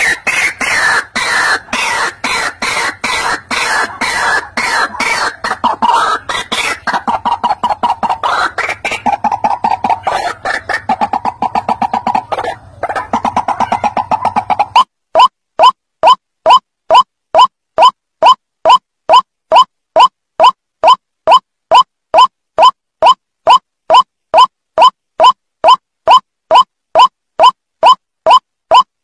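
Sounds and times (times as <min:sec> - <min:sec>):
waterhen croaking calls: 0:00.0 - 0:28.9.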